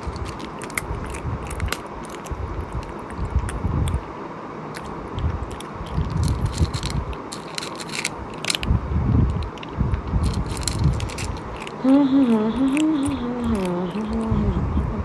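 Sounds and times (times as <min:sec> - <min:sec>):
sharp crackly clicks: 0:00.0 - 0:04.0, 0:04.7 - 0:14.3
wet chewing and biting: 0:00.0 - 0:04.1, 0:04.7 - 0:14.3.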